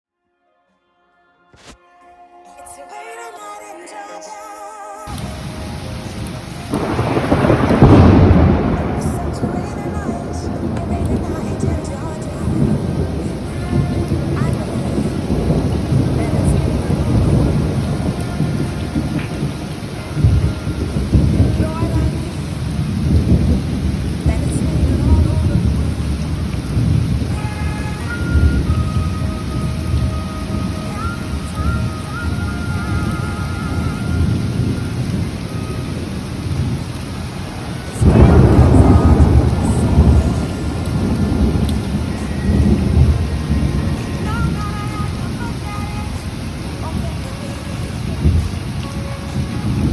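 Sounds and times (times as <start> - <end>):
loud thunder peal: 5.1 - 49.9
rolling thunder: 5.1 - 49.9
steady rain: 5.1 - 49.9.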